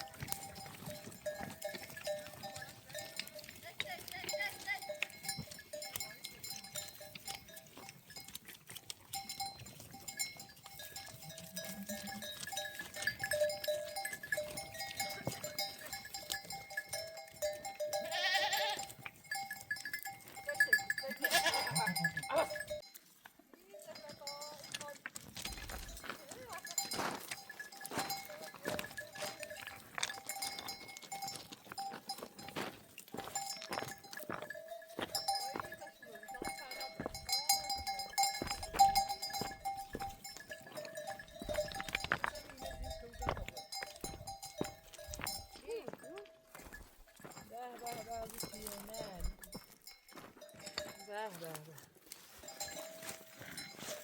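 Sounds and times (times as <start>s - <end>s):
sheep and goats bleating: 0.0s - 22.9s, 23.6s - 49.5s, 50.4s - 54.0s
neck bells clinking: 0.0s - 54.0s.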